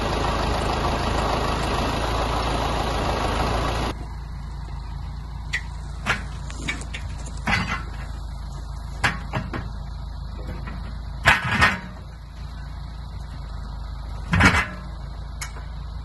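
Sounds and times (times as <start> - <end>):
logs clunking onto trailer: 0.0 - 16.0
tractor engine running: 0.0 - 16.0.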